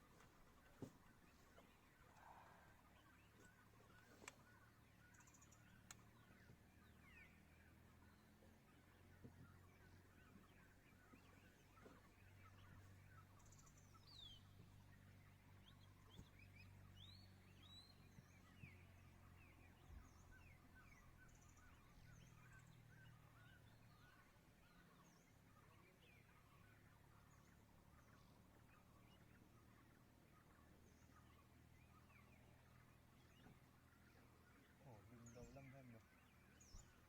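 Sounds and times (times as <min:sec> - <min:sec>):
birds chirping: 0:00.0 - 0:37.0
low steady hum: 0:00.0 - 0:37.0.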